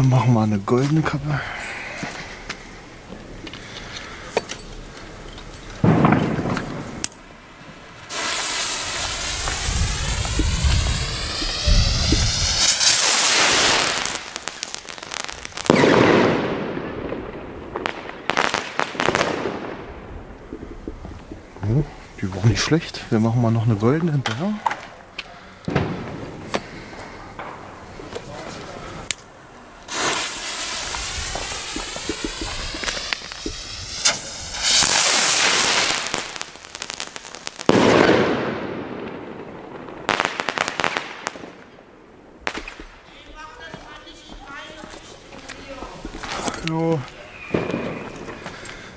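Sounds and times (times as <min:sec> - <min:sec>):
firework stars crackling: 0:00.0 - 0:48.9
firework rocket whooshing: 0:01.2 - 0:22.2, 0:25.6 - 0:43.2, 0:44.1 - 0:48.9
firework bursting loudly: 0:05.8 - 0:22.0, 0:25.7 - 0:48.9.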